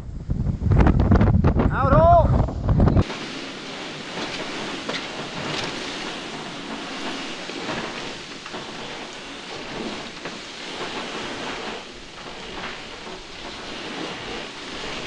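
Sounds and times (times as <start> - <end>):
water rushing across a boat deck: 2.9 - 15.0.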